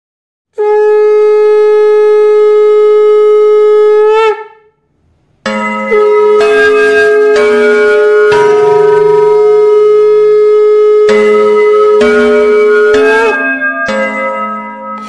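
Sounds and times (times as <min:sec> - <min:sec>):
conch shell blown: 0:00.5 - 0:04.9, 0:05.8 - 0:15.0.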